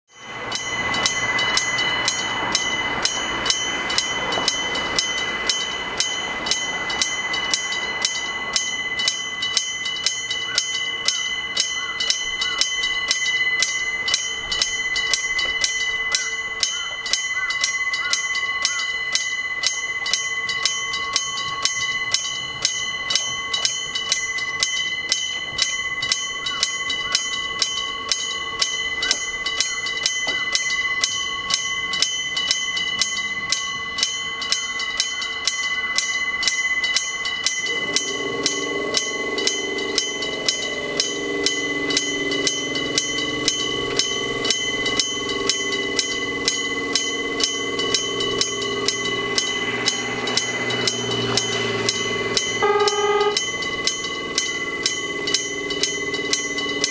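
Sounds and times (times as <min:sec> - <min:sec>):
train rumbling: 0:00.1 - 0:56.9
level crossing bell striking: 0:00.2 - 0:56.9.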